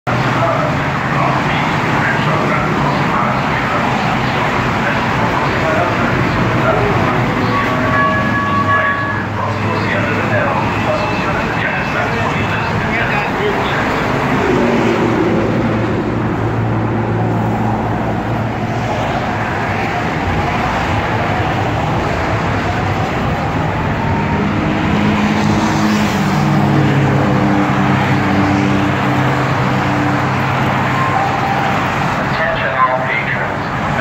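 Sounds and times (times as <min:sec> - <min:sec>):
freeway traffic noise: 0:00.1 - 0:34.0.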